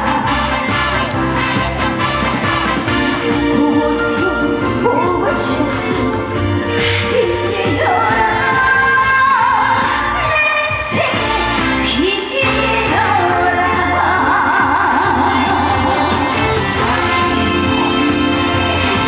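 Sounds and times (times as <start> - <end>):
live backing band: 0.0 - 19.0
woman singing with vibrato: 2.6 - 19.0.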